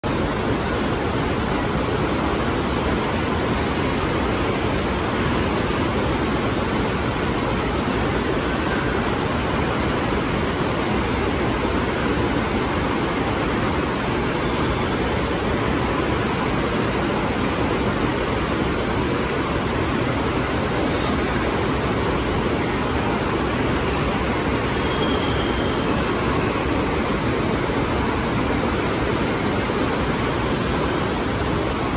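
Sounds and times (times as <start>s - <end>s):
water rushing up a slope: 0.0s - 31.9s.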